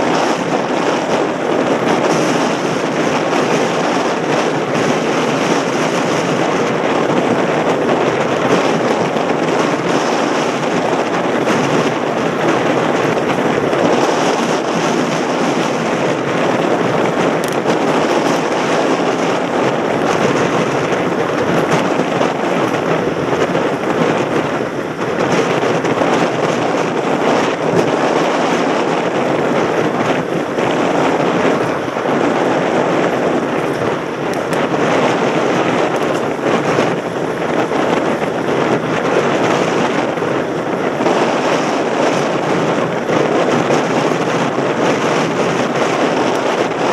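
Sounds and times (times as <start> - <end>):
wind on microphone: 0.0 - 46.9.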